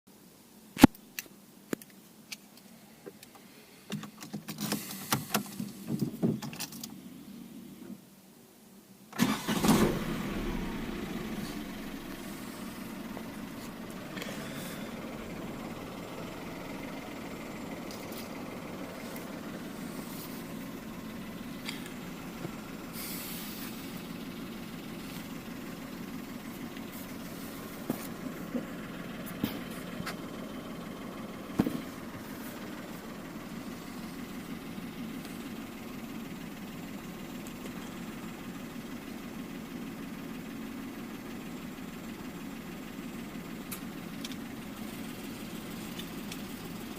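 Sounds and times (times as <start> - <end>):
car engine idling: 9.2 - 46.9.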